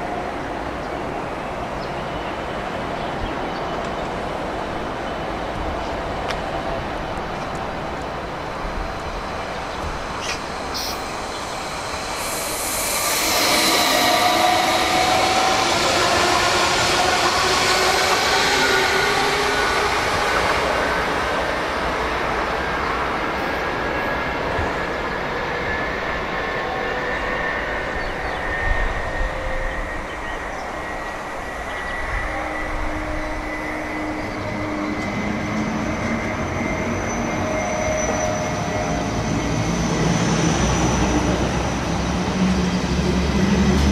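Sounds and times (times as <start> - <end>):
high-speed train whine: 0.0 - 43.9
train rushing past: 0.0 - 43.9.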